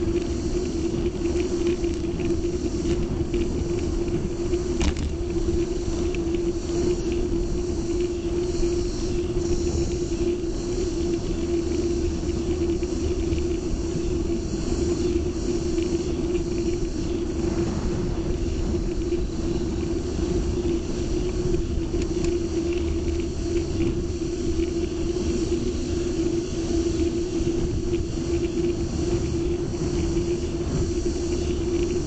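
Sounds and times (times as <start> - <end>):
cicada chorus: 0.0 - 32.0
steady low hum and rumble: 0.0 - 32.0.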